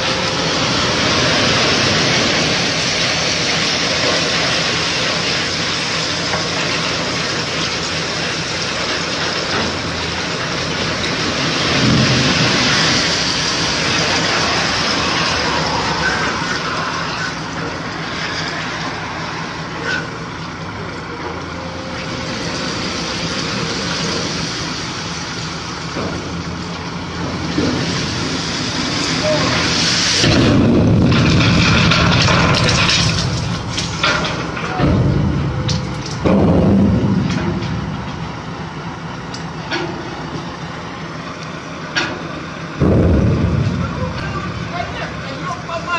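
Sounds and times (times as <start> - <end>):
continuous rushing noise: 0.0 - 45.9
diesel truck engine running: 0.0 - 45.9.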